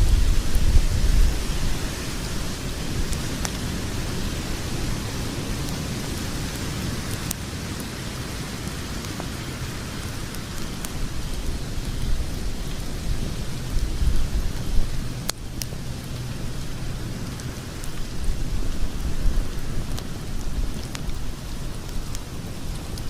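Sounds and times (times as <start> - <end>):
hiss of fire flames: 0.0 - 23.0
logs crackling and popping: 0.0 - 23.0.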